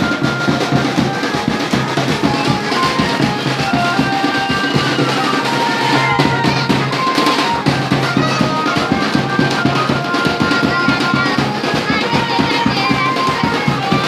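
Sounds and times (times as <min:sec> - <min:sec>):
fast dense drumming: 0:00.0 - 0:14.0
festival music: 0:00.0 - 0:14.0.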